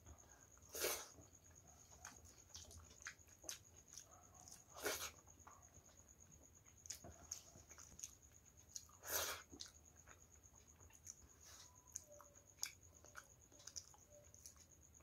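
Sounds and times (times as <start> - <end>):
soft wet chewing: 0.0 - 15.0.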